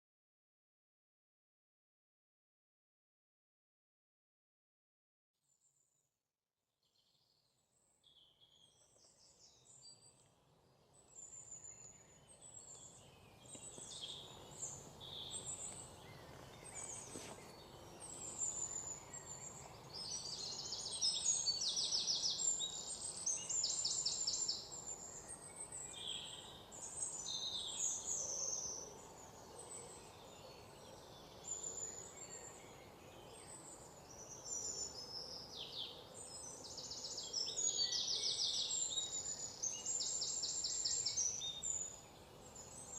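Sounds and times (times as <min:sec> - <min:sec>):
birds chirping and trilling: 0:07.2 - 0:42.9
low background noise: 0:07.7 - 0:42.9.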